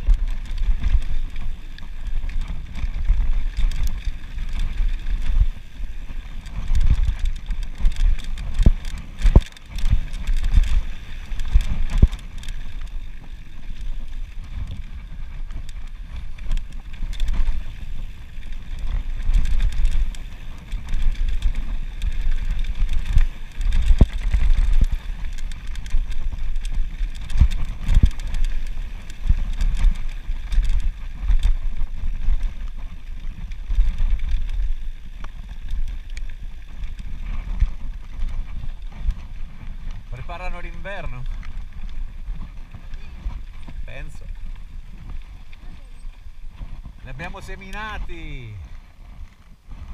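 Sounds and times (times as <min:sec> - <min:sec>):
bike knocks and rattles: 0:00.0 - 0:46.0
wind buffeting microphone: 0:00.0 - 0:49.9.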